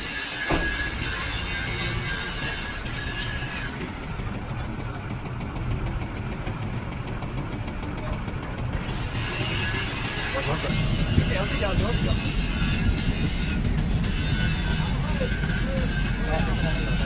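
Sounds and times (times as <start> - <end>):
engine running with low rumble: 0.5 - 17.0.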